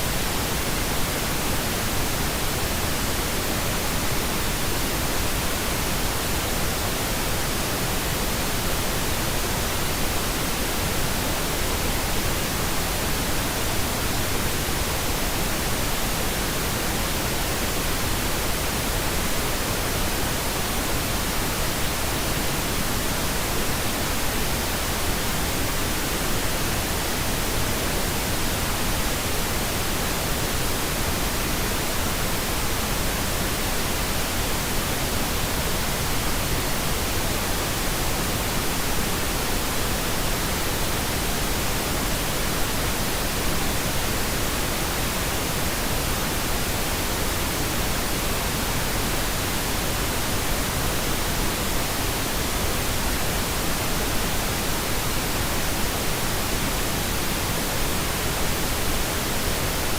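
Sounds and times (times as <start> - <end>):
steady white noise hiss: 0.0 - 59.9.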